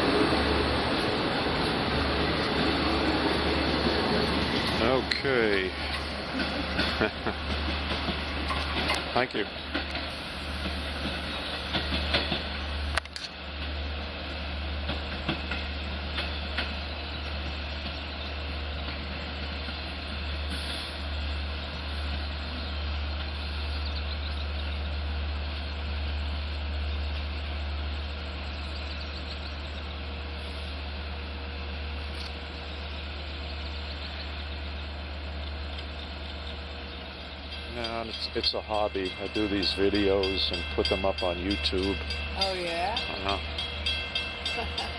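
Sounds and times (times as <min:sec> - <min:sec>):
diesel locomotive idling: 0:00.0 - 0:44.9.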